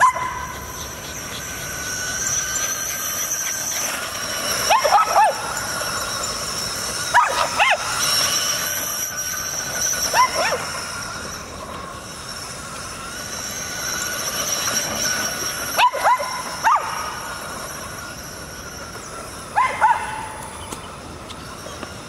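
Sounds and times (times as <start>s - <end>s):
high-pitched whine: 0.0s - 22.0s.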